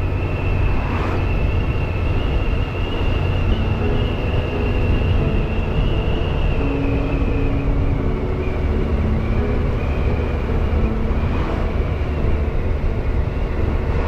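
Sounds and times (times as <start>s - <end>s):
motorcycle engine drone: 0.0s - 14.0s
wind rumble: 0.0s - 14.0s.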